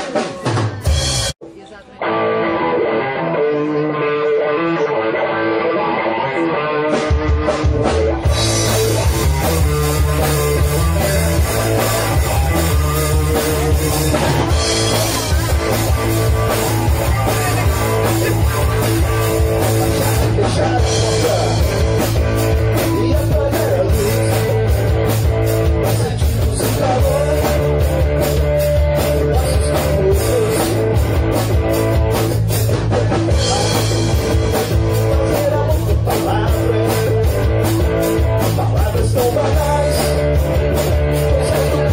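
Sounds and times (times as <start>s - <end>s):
drum kit: 0.0s - 1.6s, 6.0s - 41.9s
bass guitar: 0.0s - 41.9s
electric guitar: 0.0s - 41.9s.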